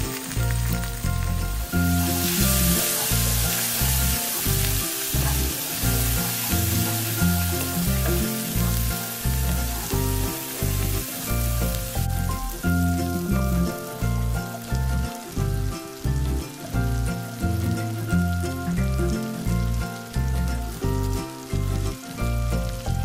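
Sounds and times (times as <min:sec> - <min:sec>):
background music with low notes: 0:00.0 - 0:23.0
potatoes sizzling in a pan: 0:00.0 - 0:23.0.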